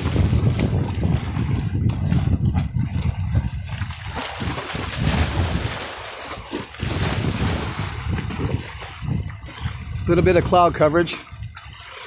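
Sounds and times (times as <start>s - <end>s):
waves splashing against riverbank: 0.0s - 12.0s
wind buffeting microphone: 0.0s - 12.0s.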